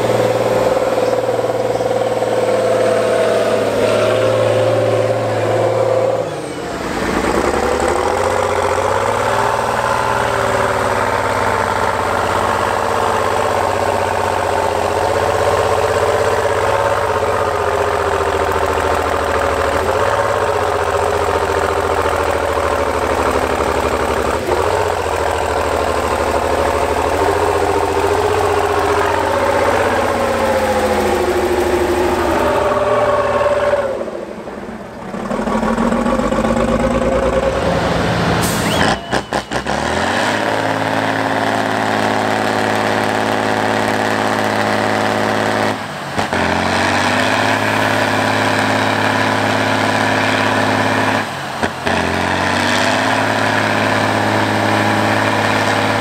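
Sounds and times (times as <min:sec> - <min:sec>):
diesel truck engines revving: 0:00.0 - 0:56.0
truck engine running steadily: 0:00.0 - 0:56.0.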